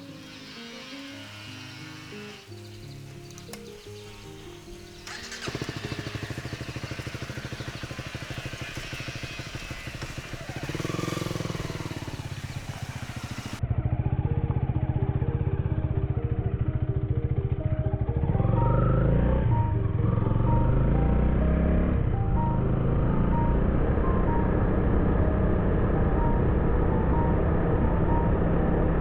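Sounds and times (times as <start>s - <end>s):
background music: 0.0s - 29.0s
motorcycle engine idling and revving: 0.0s - 29.0s
muffled engine drone: 4.3s - 29.0s.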